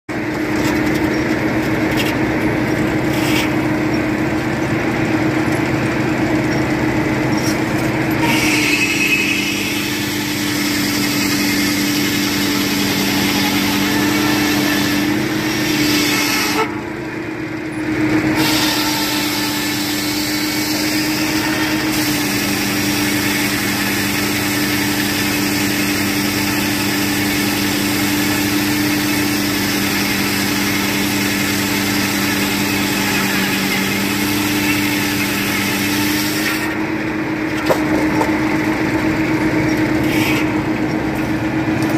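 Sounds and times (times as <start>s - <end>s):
sawmill engine running: 0.1s - 41.9s
saw blade cutting board: 0.3s - 4.2s, 7.2s - 16.8s, 18.3s - 36.9s, 37.5s - 38.5s, 40.0s - 40.7s.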